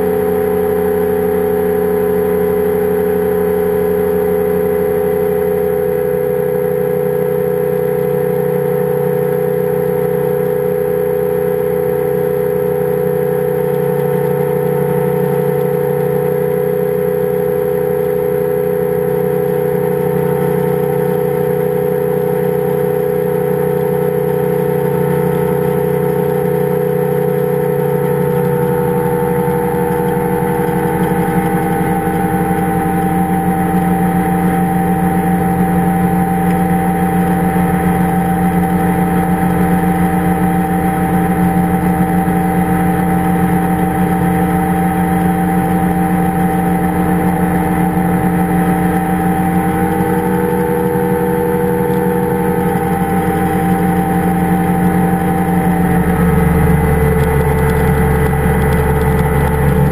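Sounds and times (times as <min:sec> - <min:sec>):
engine and propeller running: 0:00.0 - 0:59.9.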